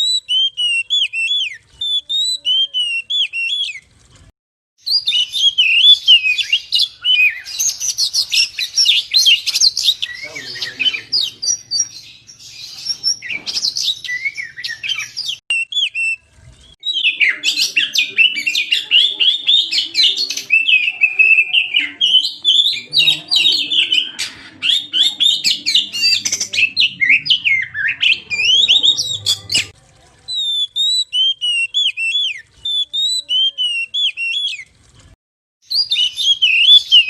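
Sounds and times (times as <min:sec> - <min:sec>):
bird singing whistles and chirps: 0:00.0 - 0:03.8, 0:04.8 - 0:29.7, 0:30.3 - 0:34.7, 0:35.7 - 0:37.0.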